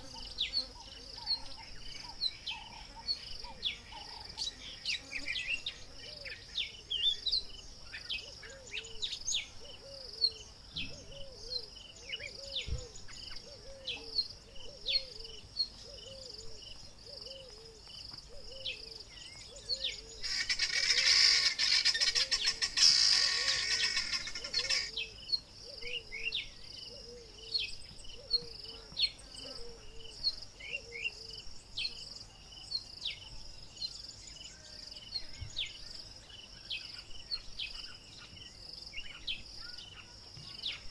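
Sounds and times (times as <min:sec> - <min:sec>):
insect drone: 0:00.0 - 0:40.9
small birds chirping: 0:00.0 - 0:40.9.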